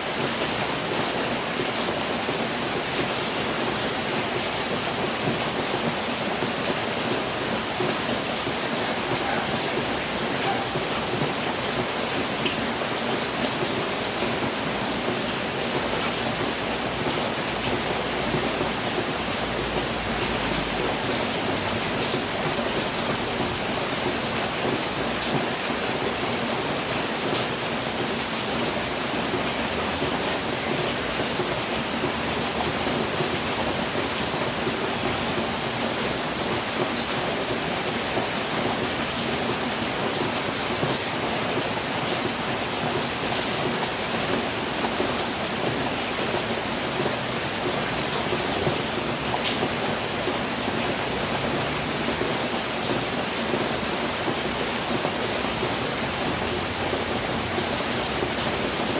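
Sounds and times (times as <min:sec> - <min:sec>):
rain on a roof: 0:00.0 - 0:58.9.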